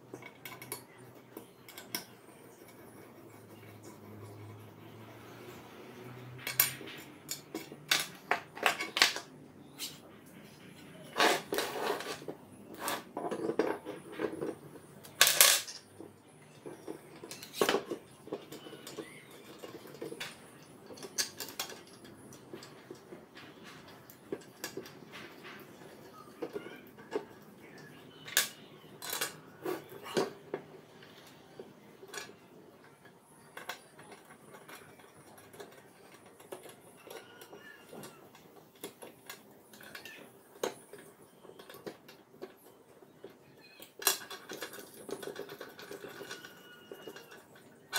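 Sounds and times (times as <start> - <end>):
plastic and steel parts clattering: 6.4 - 47.9.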